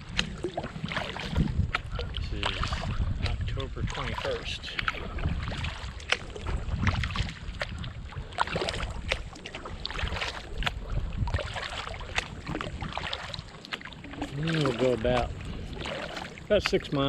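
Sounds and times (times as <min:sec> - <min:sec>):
paddle splashing water: 0:00.0 - 0:17.0.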